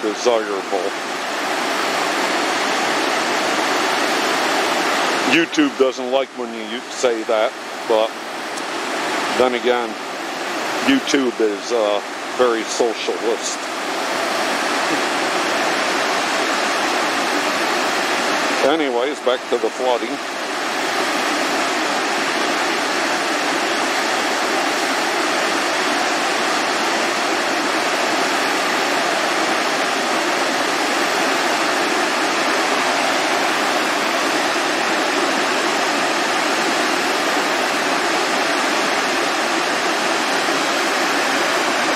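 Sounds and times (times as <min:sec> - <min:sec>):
water rushing over a dam: 0:00.0 - 0:41.9.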